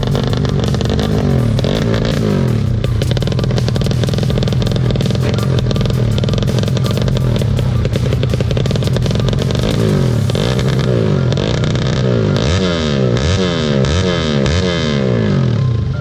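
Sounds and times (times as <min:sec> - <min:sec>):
motorcycle engine rattling: 0:00.0 - 0:15.9.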